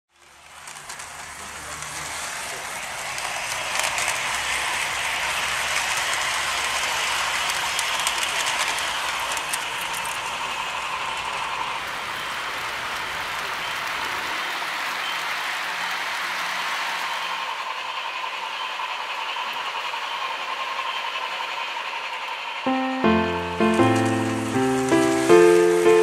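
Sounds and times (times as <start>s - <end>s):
model train motor whirring: 0.2s - 22.6s.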